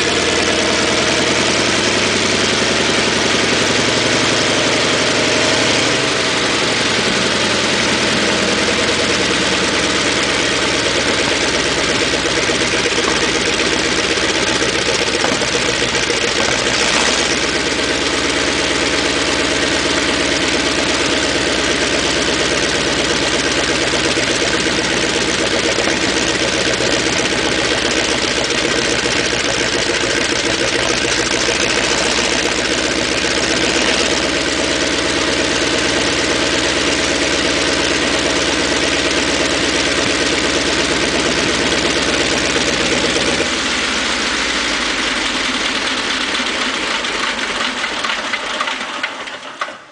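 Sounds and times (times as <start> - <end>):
tank engine idling: 0.0 - 49.9.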